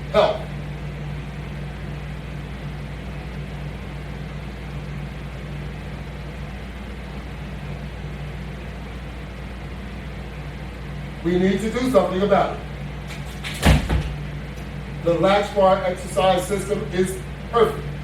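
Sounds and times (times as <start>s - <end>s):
machinery hum with hiss: 0.0s - 18.0s.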